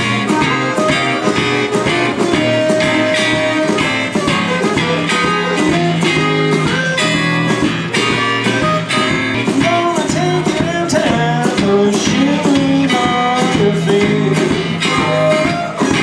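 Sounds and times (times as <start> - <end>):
blues harmonica bending notes: 0.0 - 16.0
strummed electric guitar: 0.0 - 16.0.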